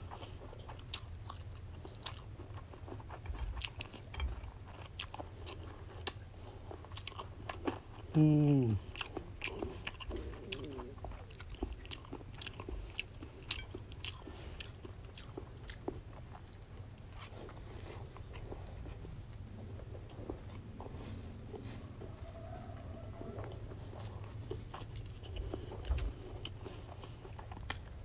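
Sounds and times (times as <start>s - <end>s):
chewing noodles: 0.0s - 28.0s.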